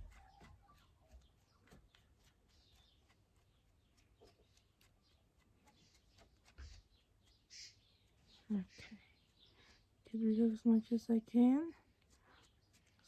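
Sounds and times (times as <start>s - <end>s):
faint bird chirps: 0.0s - 11.1s.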